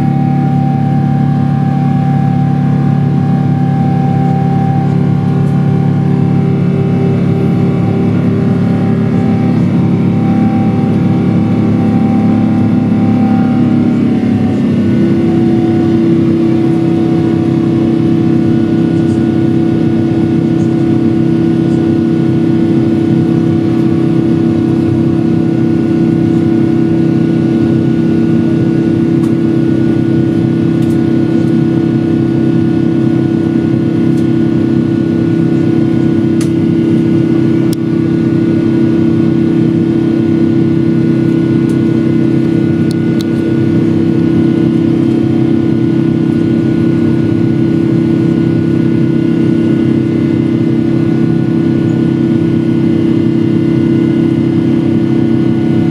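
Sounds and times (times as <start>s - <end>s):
jet engines droning: 0.0s - 55.9s.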